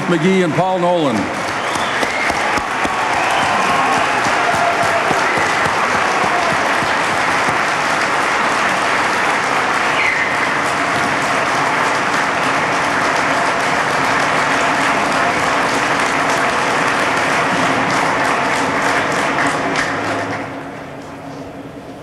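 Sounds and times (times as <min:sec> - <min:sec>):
large crowd applauding: 0:00.0 - 0:20.5.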